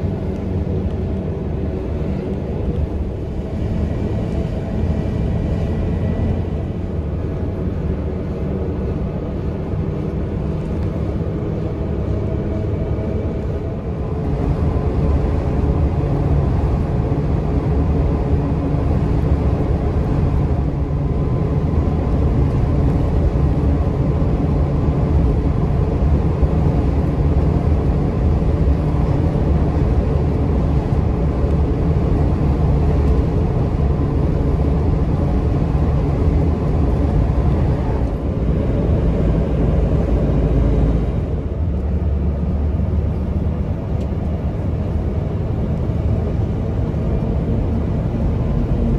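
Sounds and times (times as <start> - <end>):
vehicle engine and tyre rumble: 0.0 - 48.9.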